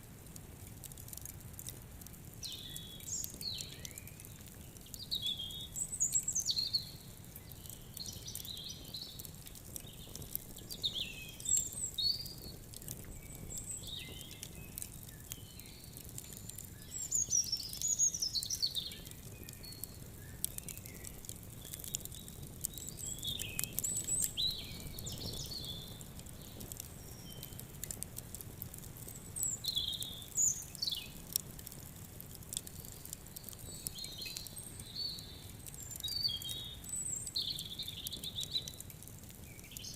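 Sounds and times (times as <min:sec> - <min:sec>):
wood fire crackling: 0:00.0 - 0:39.9
small birds chirping: 0:02.4 - 0:31.7, 0:32.5 - 0:39.9.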